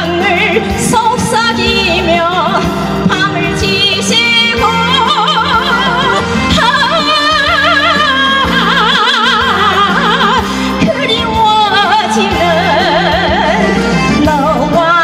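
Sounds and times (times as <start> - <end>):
instrumental accompaniment with bass: 0.0 - 15.0
woman singing with vibrato: 0.0 - 15.0.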